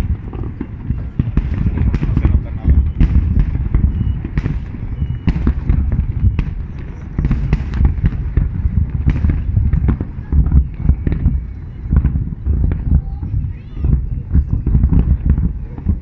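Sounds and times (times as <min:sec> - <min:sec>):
firework whistles: 0:00.0 - 0:16.0
fireworks booming and cracking: 0:00.0 - 0:16.0.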